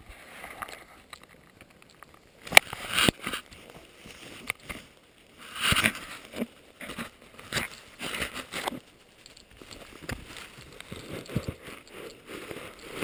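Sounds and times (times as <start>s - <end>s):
rustling of clothing and straps: 0.0s - 13.0s.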